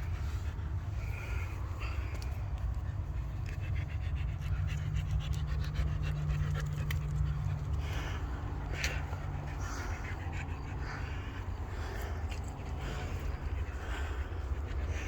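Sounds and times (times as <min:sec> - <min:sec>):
dog panting: 0:00.0 - 0:15.0
steady low rumble: 0:00.0 - 0:15.0.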